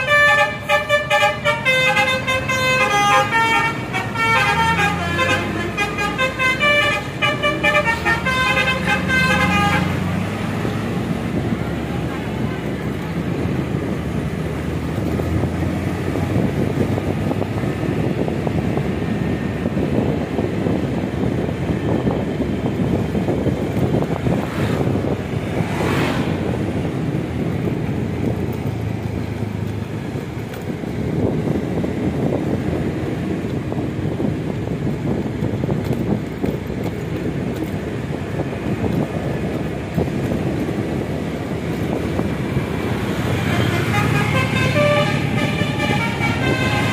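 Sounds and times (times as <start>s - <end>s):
vehicle rumble: 0.0s - 46.9s
wind buffeting microphone: 0.0s - 46.9s.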